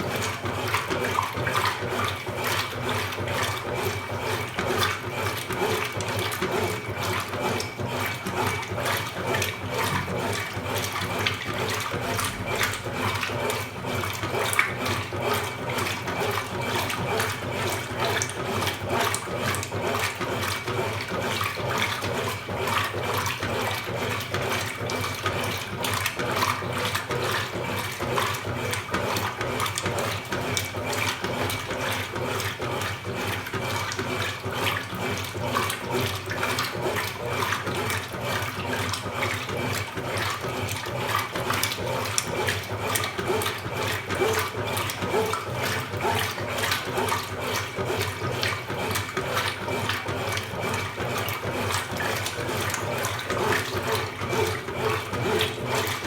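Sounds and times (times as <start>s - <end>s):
water sloshing in washing machine: 0.0s - 56.0s.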